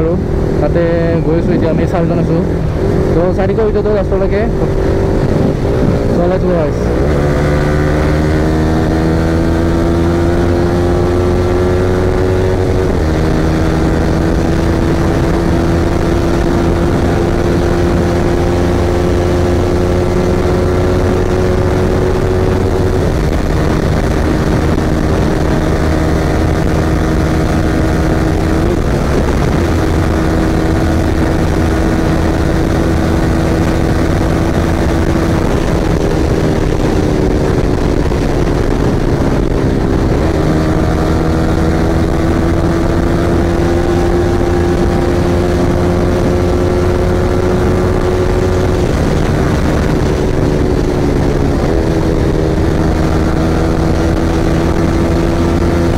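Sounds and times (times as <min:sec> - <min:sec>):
motorcycle engine running: 0:00.0 - 0:55.9
wind noise: 0:00.0 - 0:55.9.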